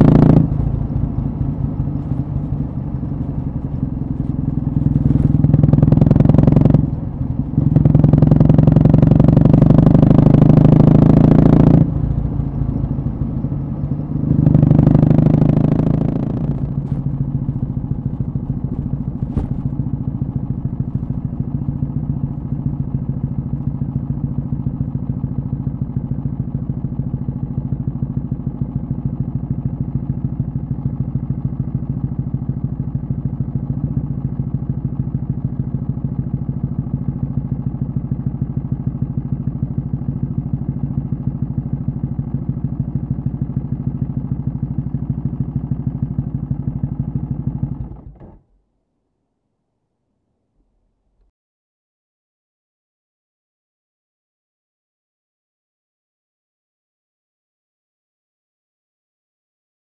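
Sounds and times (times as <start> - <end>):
motorcycle engine idling: 0.0 - 48.3.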